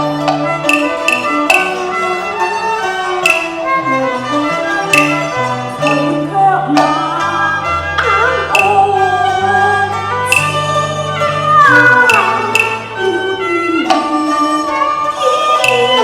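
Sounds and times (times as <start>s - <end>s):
bowed string melody: 0.0s - 16.0s
sharp struck or plucked notes: 0.0s - 16.0s.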